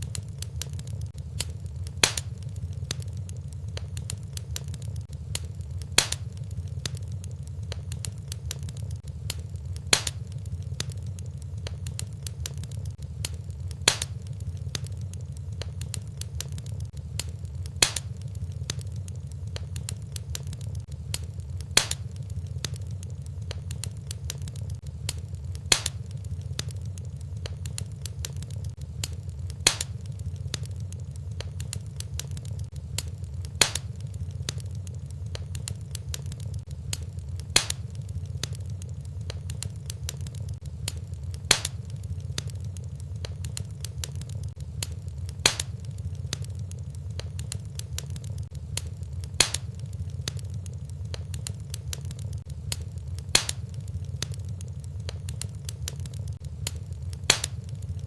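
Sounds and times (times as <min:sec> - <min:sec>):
low rumble of fire: 0:00.0 - 0:58.0
sharp pops of fire: 0:00.0 - 0:58.0
wood fire crackling: 0:00.0 - 0:58.0.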